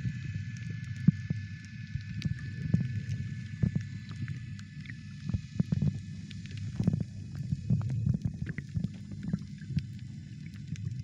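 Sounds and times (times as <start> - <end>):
faint steady whine: 0.0 - 11.0
underwater rumble of moving water: 0.0 - 11.0.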